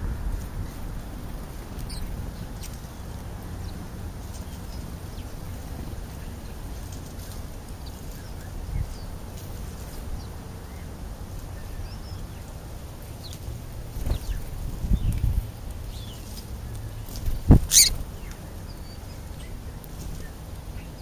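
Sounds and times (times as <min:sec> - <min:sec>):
small birds chirping: 0:00.6 - 0:21.0.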